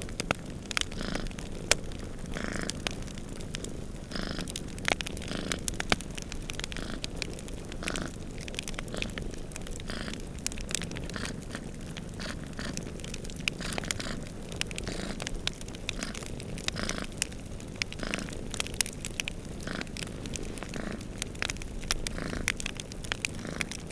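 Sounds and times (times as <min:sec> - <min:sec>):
cats purring: 0:00.0 - 0:23.9
wood fire crackling: 0:00.0 - 0:23.9.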